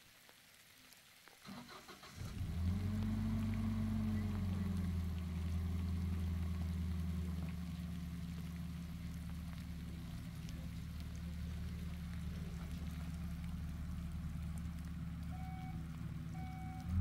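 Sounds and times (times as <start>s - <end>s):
vehicle engine starting and idling: 1.4s - 17.0s.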